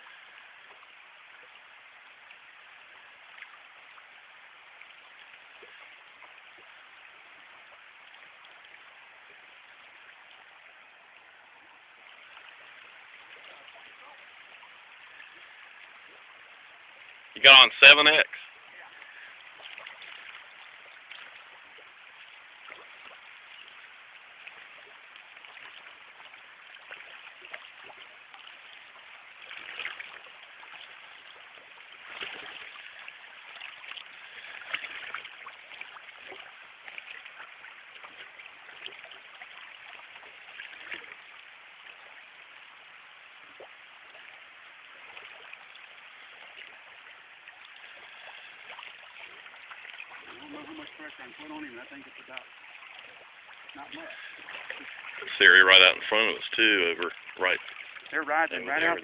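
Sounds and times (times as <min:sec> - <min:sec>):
river water rushing over riffles: 0:00.0 - 0:59.0.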